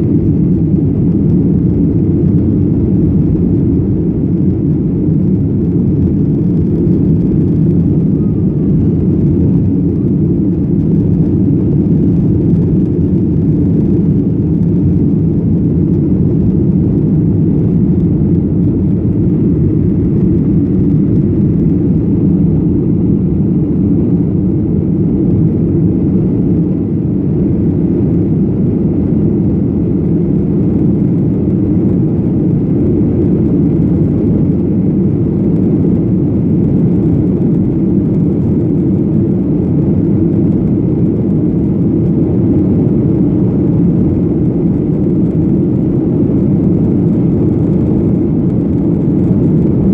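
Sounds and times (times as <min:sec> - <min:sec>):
jet engines droning: 0:00.0 - 0:49.9.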